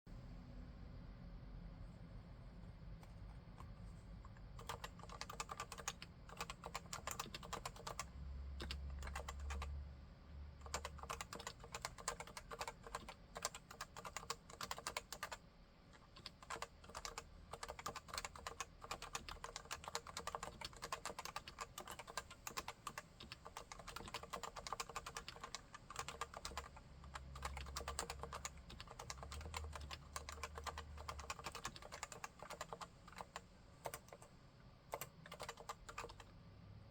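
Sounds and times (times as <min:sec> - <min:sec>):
fast keyboard typing: 0:04.6 - 0:09.8, 0:10.6 - 0:15.4, 0:16.0 - 0:34.3, 0:34.9 - 0:36.3.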